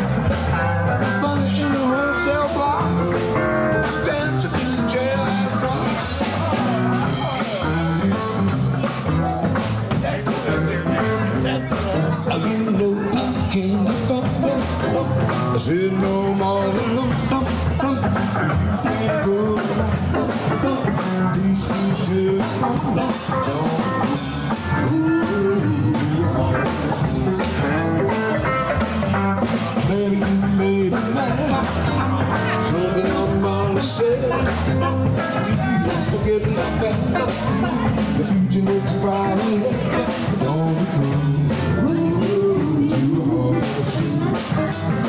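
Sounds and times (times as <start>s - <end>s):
drum kit: 0.0s - 45.0s
electric guitar: 0.0s - 45.0s
keyboard: 0.0s - 45.0s
person singing: 0.0s - 45.0s.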